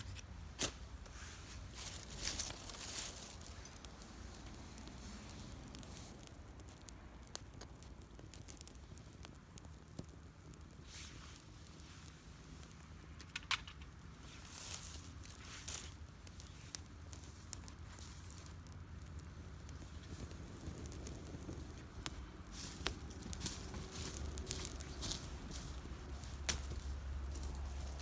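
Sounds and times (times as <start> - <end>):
low steady rumble: 0.0 - 13.2, 13.8 - 28.0
campfire crackling and popping: 0.0 - 28.0.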